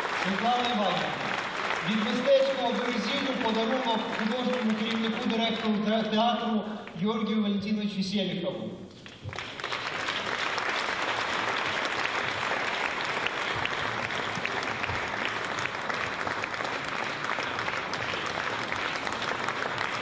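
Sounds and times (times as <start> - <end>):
audience clapping: 0.0 - 6.2, 9.0 - 20.0.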